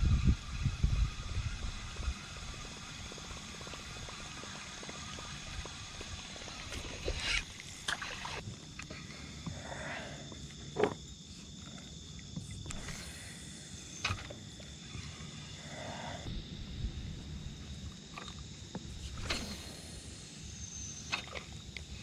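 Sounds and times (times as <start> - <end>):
faint high-pitched hum: 0.0 - 22.0.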